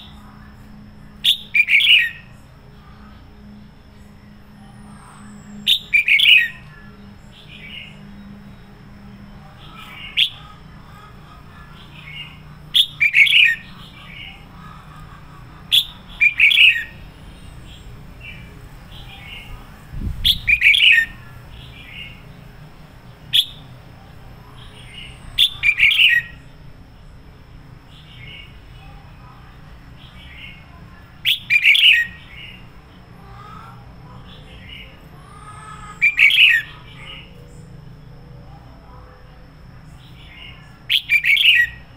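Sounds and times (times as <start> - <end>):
bulbul singing: 0.0 - 27.2, 27.8 - 38.6, 39.8 - 41.9.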